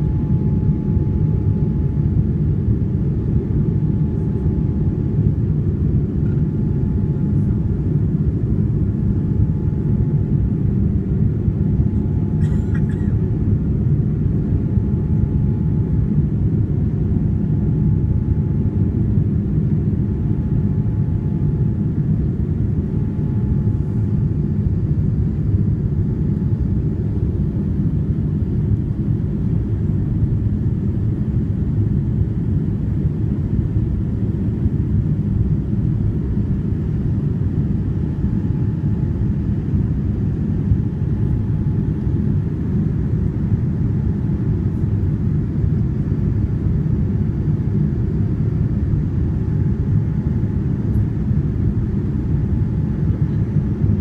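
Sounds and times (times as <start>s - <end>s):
airliner engines and rushing air: 0.0s - 54.0s.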